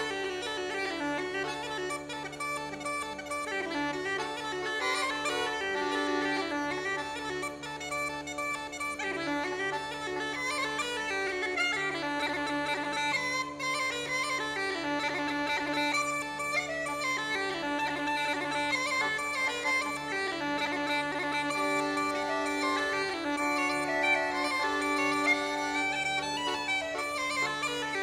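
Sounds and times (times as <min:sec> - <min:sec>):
bagpipes playing a melody: 0:00.0 - 0:28.0.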